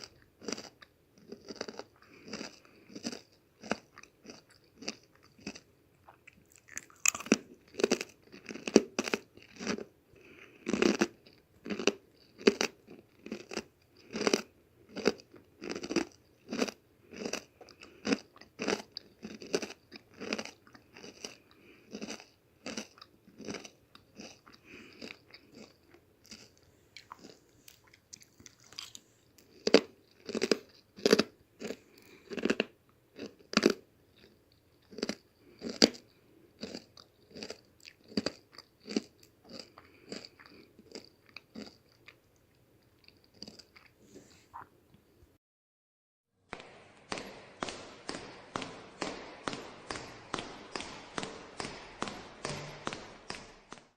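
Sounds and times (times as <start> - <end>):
crunchy chewing of cookies: 0.0 - 44.7.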